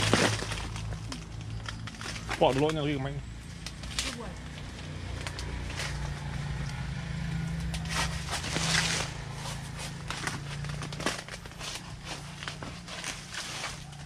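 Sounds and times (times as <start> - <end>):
dry leaves rustling: 0.0 - 14.0.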